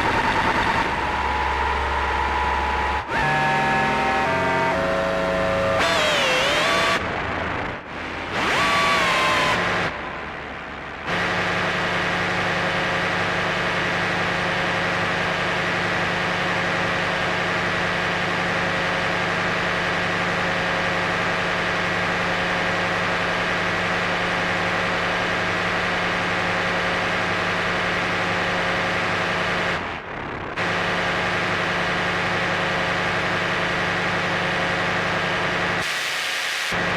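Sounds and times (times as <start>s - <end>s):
buzzing synthesizer drone: 0.0s - 36.9s.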